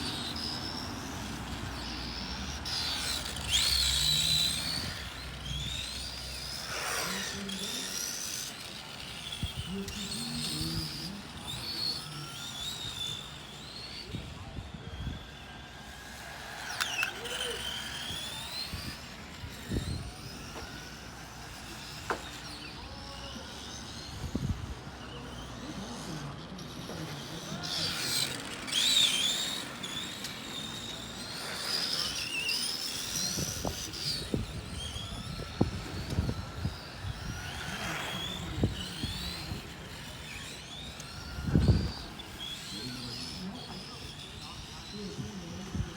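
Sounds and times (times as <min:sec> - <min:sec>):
electric motors whining: 0:00.0 - 0:45.9.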